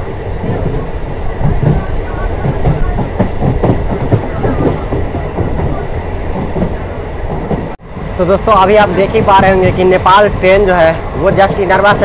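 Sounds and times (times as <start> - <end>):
train wheels rumbling and clattering: 0.0 - 12.0.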